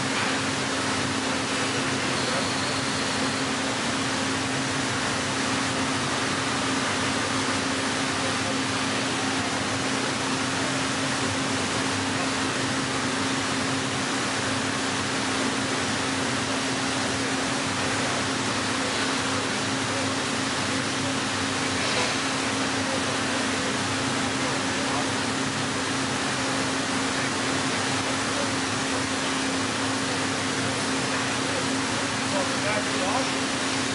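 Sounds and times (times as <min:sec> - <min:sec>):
rolling machine humming: 0:00.0 - 0:33.9.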